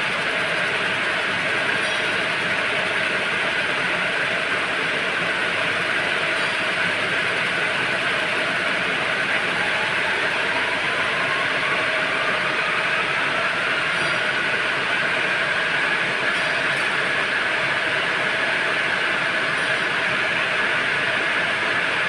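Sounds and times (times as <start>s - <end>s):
loom machines running: 0.0s - 22.0s.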